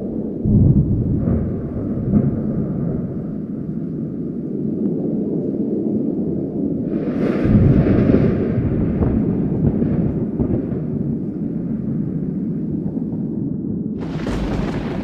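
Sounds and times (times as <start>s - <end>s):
steady low wind: 0.0s - 15.0s
thunder rumbling: 0.0s - 15.0s.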